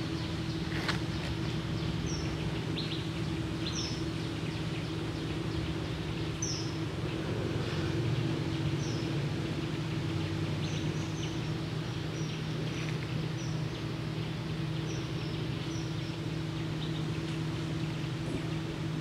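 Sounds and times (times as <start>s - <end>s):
low mechanical motor hum: 0.0s - 19.0s.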